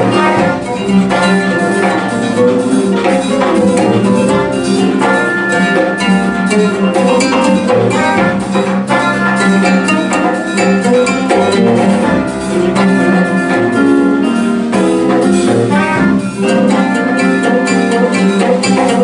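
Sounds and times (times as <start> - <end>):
live jazz band playing: 0.0 - 19.0.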